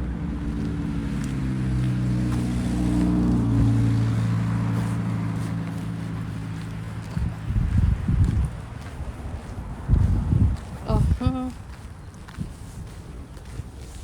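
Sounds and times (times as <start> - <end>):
vehicle passing on road: 0.0 - 14.0.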